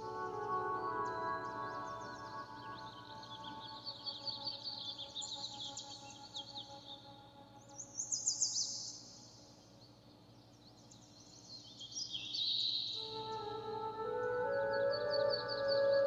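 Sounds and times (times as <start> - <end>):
soft ambient music: 0.0 - 11.7, 12.9 - 16.0
small birds chirping: 0.0 - 16.0.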